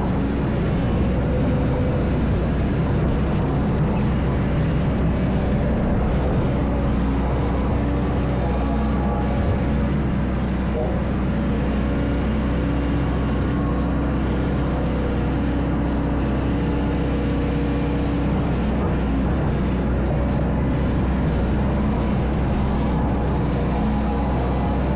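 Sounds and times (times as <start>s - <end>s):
engine running steadily: 0.0s - 24.9s.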